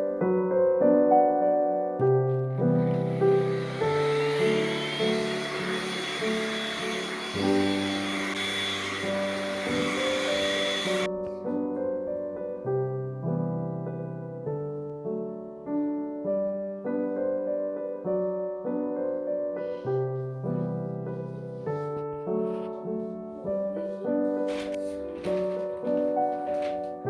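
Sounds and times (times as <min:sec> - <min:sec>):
soft piano music: 0:00.0 - 0:27.0.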